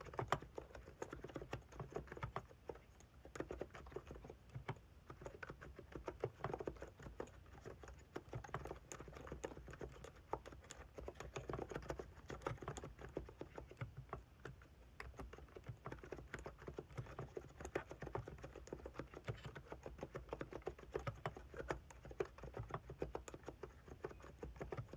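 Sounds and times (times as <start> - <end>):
fast keyboard typing: 0.0 - 24.9.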